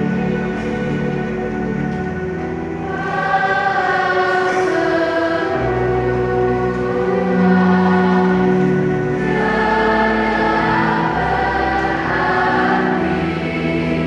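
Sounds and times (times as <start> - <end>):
choir singing a hymn: 0.0 - 14.0
instrumental accompaniment: 0.0 - 14.0.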